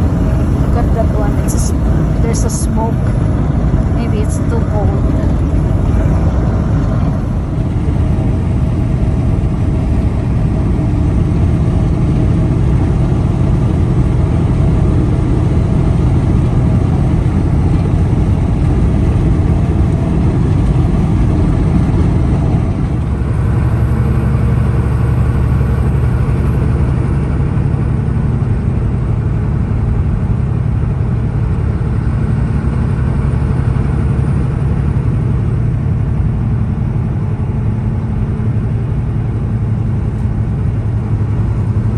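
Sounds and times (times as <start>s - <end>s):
heavy truck engine drone: 0.0s - 41.9s
road rumble: 0.0s - 41.9s.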